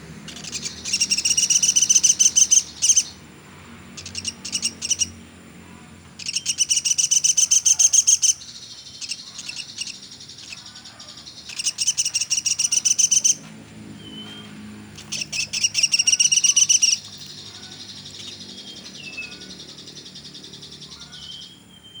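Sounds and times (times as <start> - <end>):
bird trilling: 0.2 - 3.2, 4.0 - 5.2, 6.2 - 22.0.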